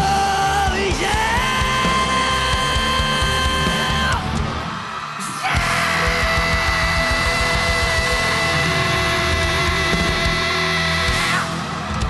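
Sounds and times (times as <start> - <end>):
hard rock band playing: 0.0 - 12.0.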